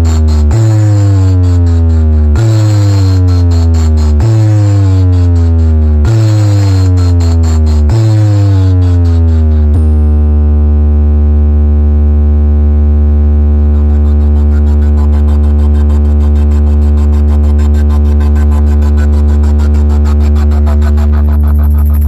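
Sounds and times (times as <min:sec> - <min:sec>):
deep electronic bass tone: 0:00.0 - 0:22.0.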